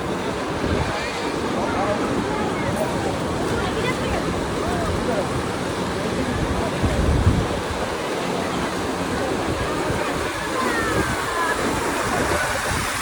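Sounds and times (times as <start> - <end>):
sea surf rushing: 0.0 - 13.0
wind buffeting microphone: 0.0 - 13.0.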